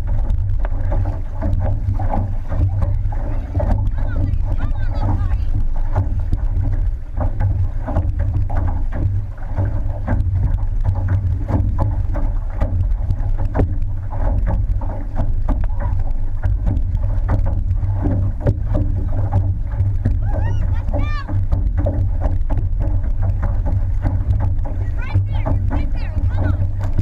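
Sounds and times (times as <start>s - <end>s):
paddle splashes: 0.0s - 27.0s
water rushing past hull: 0.0s - 27.0s
wind rumble on microphone: 0.0s - 27.0s.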